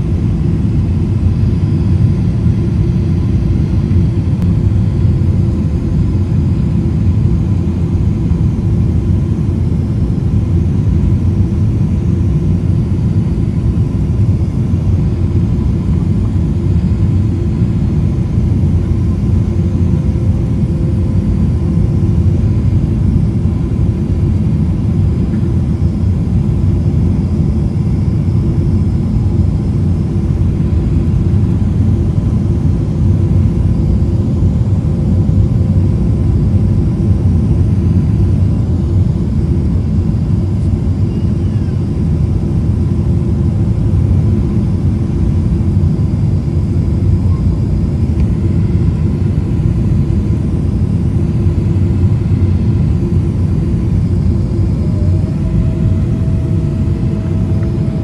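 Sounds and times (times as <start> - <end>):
faint steady whine: 0.0 - 58.0
jet engines and rushing air: 0.0 - 58.0.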